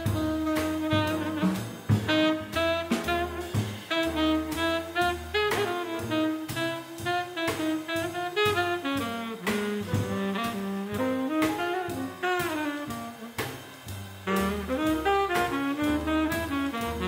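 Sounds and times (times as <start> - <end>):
drum kit keeping time: 0.0 - 17.0
piano: 0.0 - 17.0
saxophone melody: 0.0 - 17.0
walking double bass: 0.0 - 17.0.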